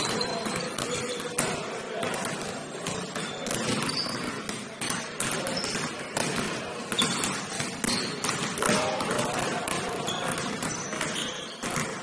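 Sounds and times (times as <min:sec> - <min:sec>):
basketball bouncing on gym floor: 0:00.0 - 0:12.0.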